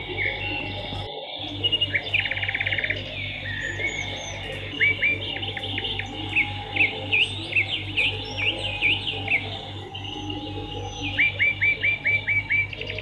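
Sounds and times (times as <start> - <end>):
swiftlets twittering: 0.0 - 13.0.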